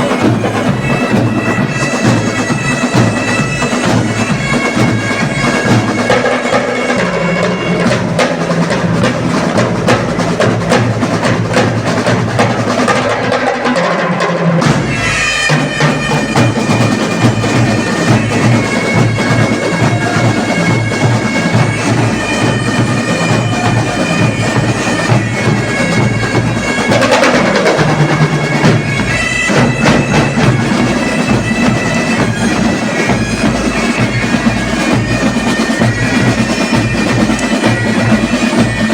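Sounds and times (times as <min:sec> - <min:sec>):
bagpipes playing: 0:00.0 - 0:12.1, 0:14.6 - 0:38.9
drums beating: 0:00.0 - 0:38.9.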